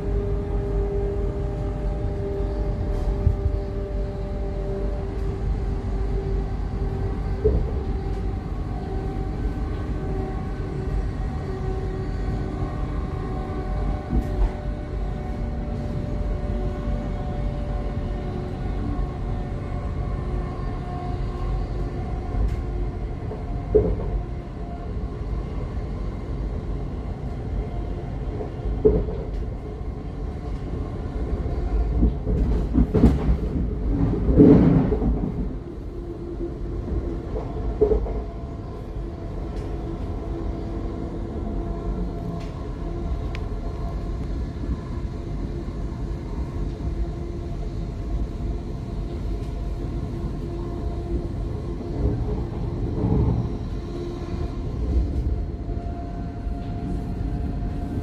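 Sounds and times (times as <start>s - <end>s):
steady train hum: 0.0s - 58.0s
train wheels rumbling on rail: 0.0s - 58.0s.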